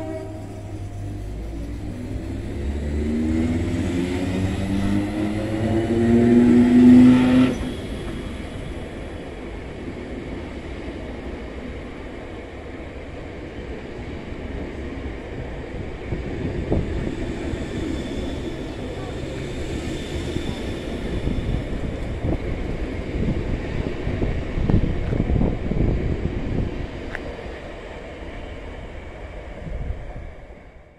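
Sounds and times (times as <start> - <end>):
train rumbling: 0.0 - 30.9.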